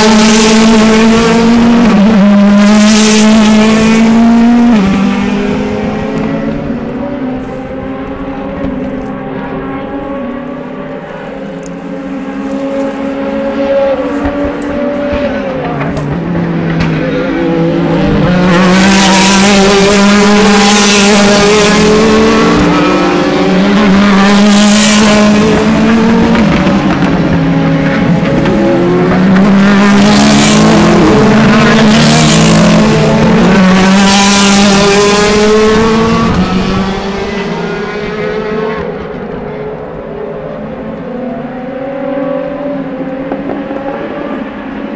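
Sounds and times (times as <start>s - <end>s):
racing car engines passing: 0.0s - 44.9s.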